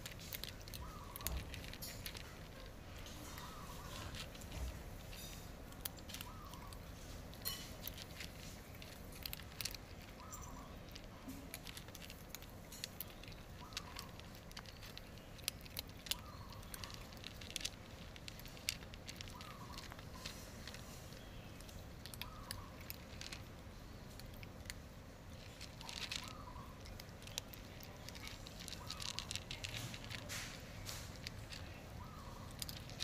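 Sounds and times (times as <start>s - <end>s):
cats crunching dry kibble: 0.0s - 33.0s.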